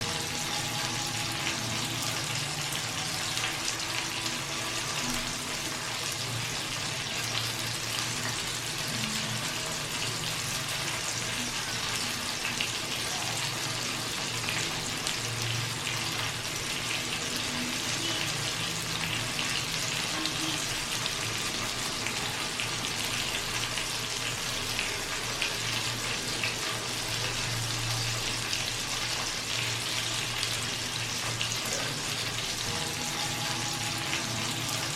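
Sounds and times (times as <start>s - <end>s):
chicken sizzling in hot fat: 0.0s - 34.9s.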